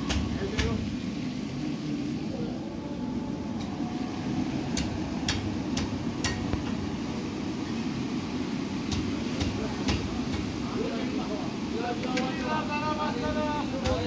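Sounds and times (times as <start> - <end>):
busy street market murmur: 0.0 - 14.0.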